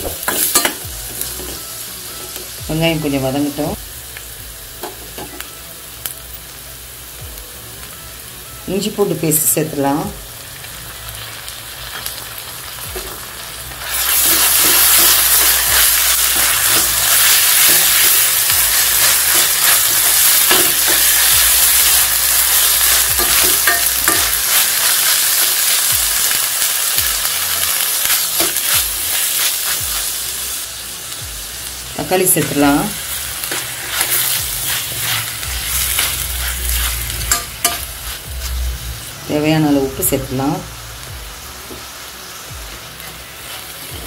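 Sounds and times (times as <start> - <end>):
onions sizzling in pan: 0.0 - 44.0.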